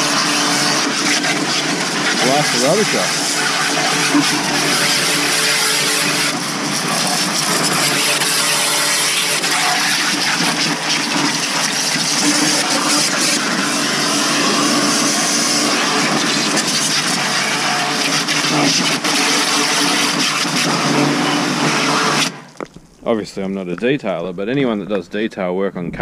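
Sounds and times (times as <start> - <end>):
pressure washer motor humming: 0.0 - 23.8.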